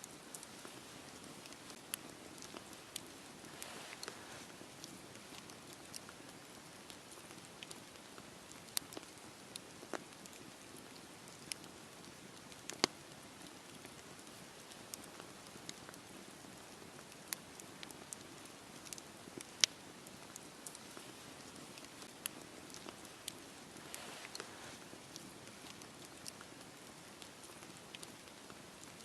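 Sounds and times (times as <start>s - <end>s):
campfire hissing: 0.0s - 29.0s
wood crackling and popping: 0.0s - 29.0s.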